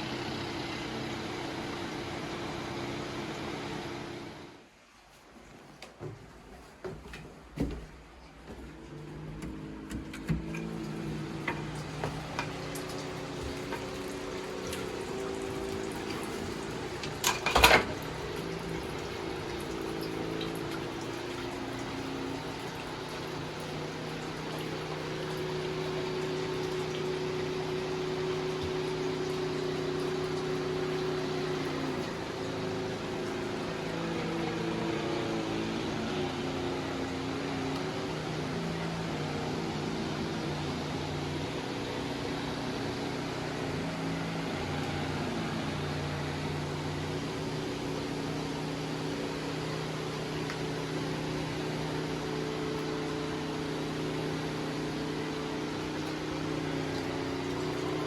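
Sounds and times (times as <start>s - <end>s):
running water: 7.5s - 58.0s.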